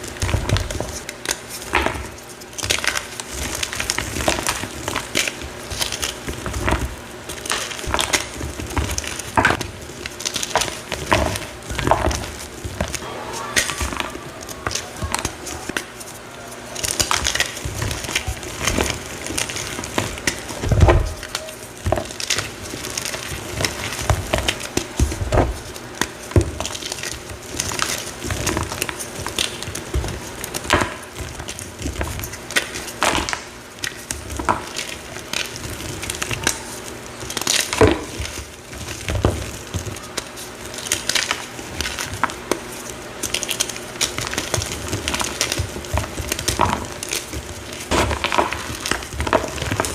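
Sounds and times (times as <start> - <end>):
block being crushed and crumbled: 0.1 - 13.0, 16.8 - 49.9.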